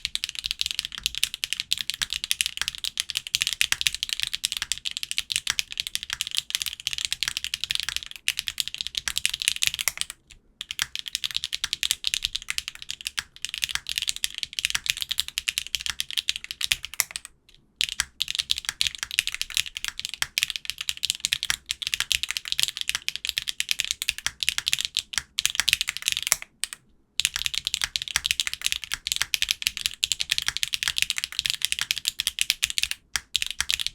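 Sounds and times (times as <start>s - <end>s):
fast mechanical keyboard typing: 0.0s - 33.9s.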